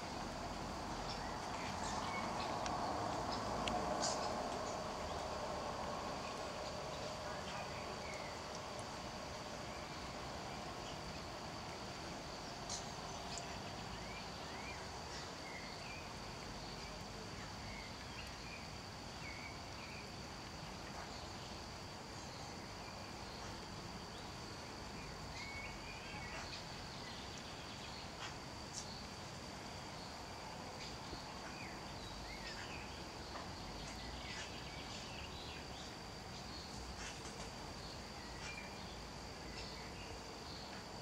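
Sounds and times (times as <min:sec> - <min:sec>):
faint distant bird chirps: 0:00.0 - 0:29.2, 0:29.9 - 0:40.8.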